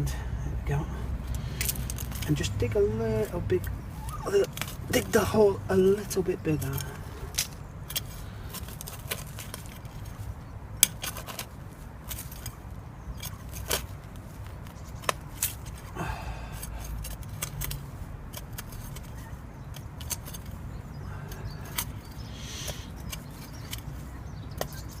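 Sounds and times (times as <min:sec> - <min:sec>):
tool digging in loose soil: 0:01.3 - 0:25.0.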